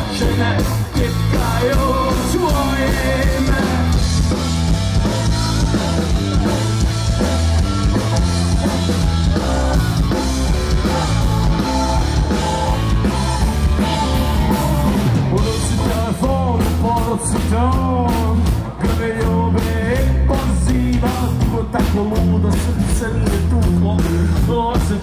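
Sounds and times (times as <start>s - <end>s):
punk rock band playing: 0.0s - 25.0s.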